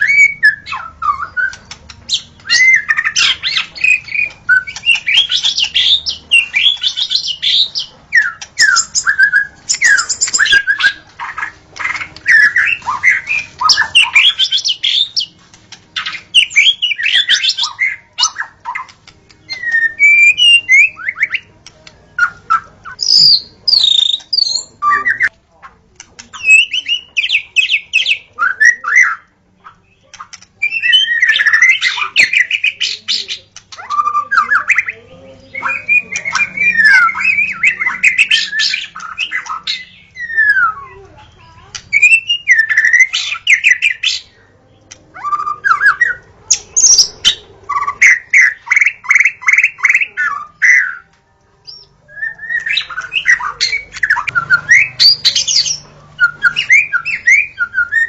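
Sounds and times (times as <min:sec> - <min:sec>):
bird singing: 0:00.0 - 0:25.4, 0:26.0 - 0:58.0.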